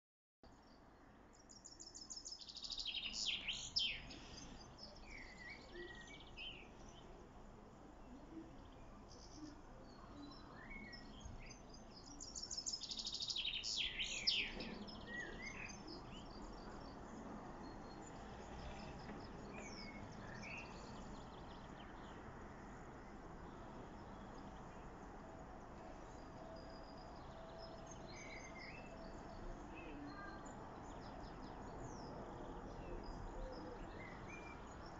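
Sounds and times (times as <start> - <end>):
blackbird song phrases: 0.4 - 34.9
songbirds singing: 0.4 - 34.9.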